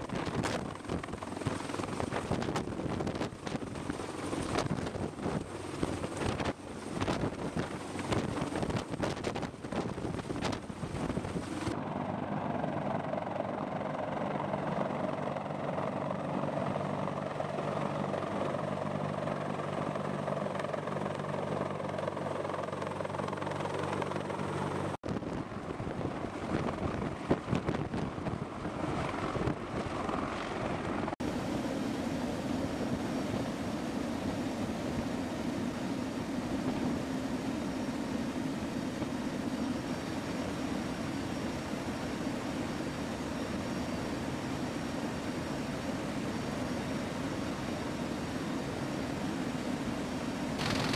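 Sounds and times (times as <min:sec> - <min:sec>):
helicopter rotor and turbine: 0:00.0 - 0:50.9.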